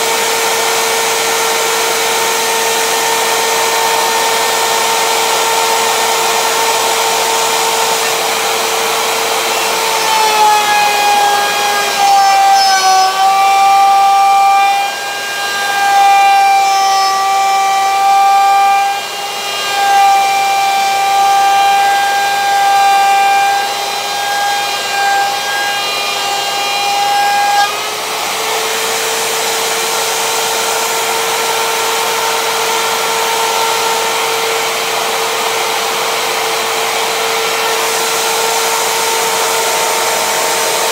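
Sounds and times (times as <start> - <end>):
electric router whining: 0.0 - 40.9.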